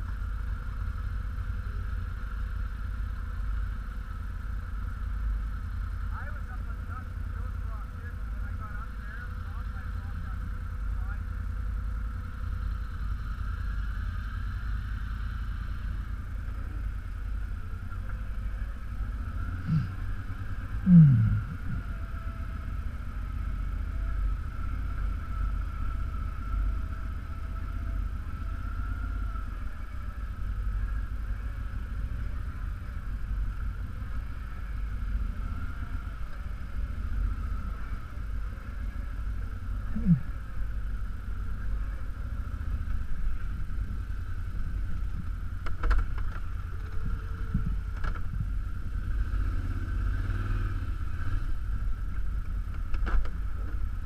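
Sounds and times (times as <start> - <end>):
atv engine rumbling: 0.0 - 54.0.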